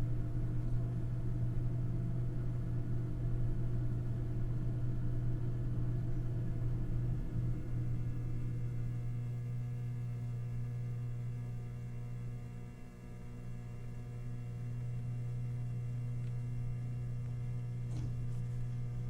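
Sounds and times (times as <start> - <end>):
electrical machinery hum: 0.0 - 19.0.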